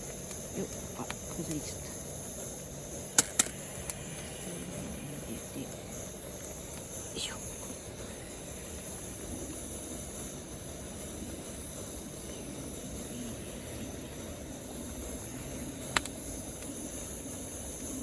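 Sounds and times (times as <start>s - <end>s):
camp stove burner roaring: 0.0s - 18.0s.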